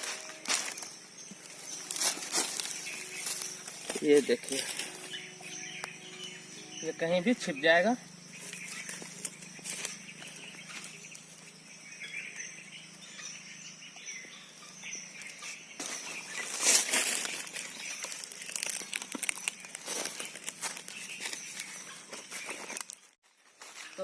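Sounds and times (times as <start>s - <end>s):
rustling in dry leaves: 0.0s - 7.5s, 8.2s - 11.6s, 14.5s - 24.0s
faint bird chirps: 0.0s - 24.0s.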